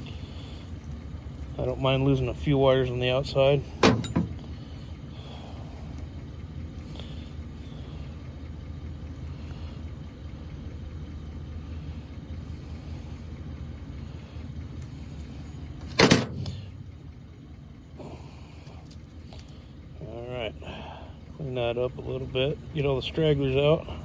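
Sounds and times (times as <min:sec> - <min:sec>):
low mechanical rumble: 0:00.0 - 0:24.0.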